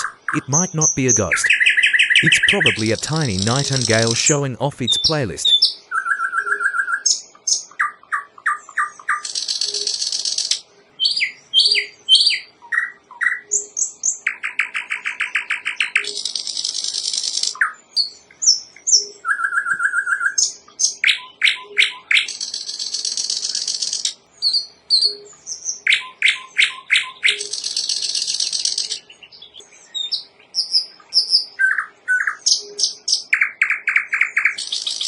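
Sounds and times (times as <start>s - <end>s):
nightingale singing: 0.0s - 35.0s.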